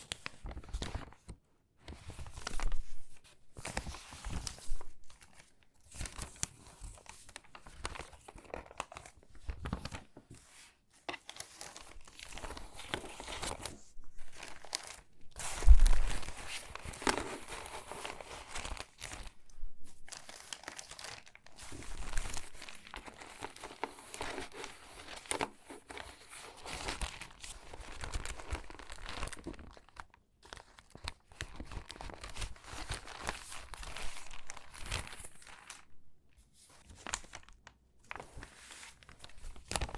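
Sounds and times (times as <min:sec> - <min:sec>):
magazine pages rustling: 0:00.0 - 0:35.9, 0:36.7 - 0:39.9
paper crunch: 0:01.9 - 0:35.9, 0:36.6 - 0:39.9.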